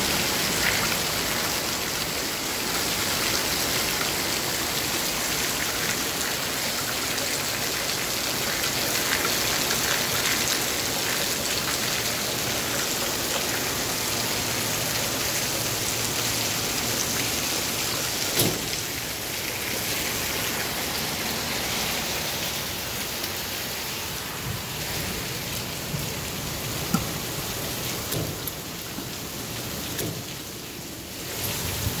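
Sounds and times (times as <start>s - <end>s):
rain falling on a canopy: 0.0s - 32.0s
water gushing onto concrete: 0.0s - 32.0s.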